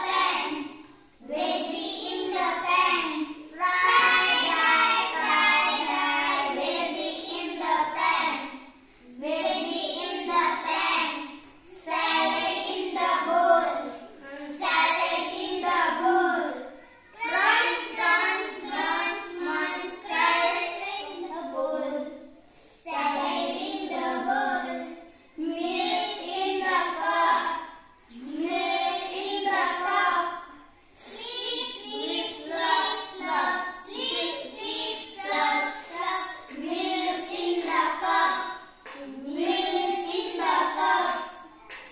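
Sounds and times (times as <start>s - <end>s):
children singing in unison: 0.0s - 41.9s.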